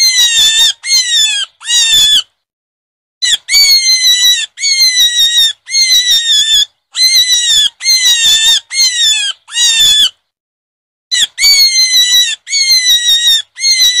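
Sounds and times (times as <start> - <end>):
high-pitched animal squeals: 0.0 - 2.3, 3.2 - 10.2, 11.1 - 14.0.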